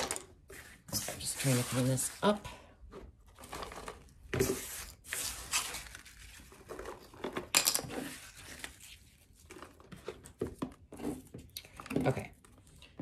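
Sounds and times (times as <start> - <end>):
crinkling and rustling handling: 0.0 - 13.0.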